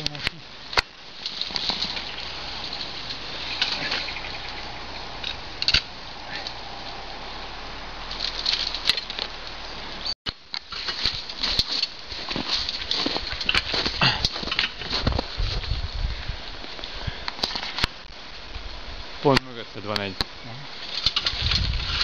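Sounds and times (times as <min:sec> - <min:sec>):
bark and twigs cracking: 0:00.0 - 0:07.4, 0:08.0 - 0:09.6, 0:10.3 - 0:22.0
rustling and scraping climbing tree: 0:00.0 - 0:22.0.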